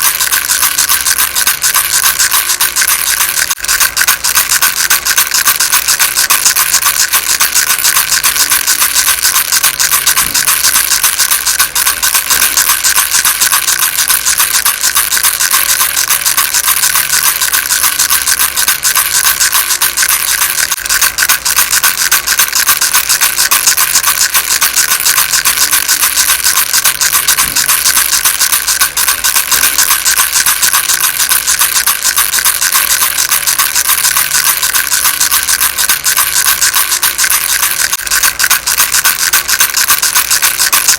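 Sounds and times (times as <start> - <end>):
baby rattle shaken: 0.0 - 40.9.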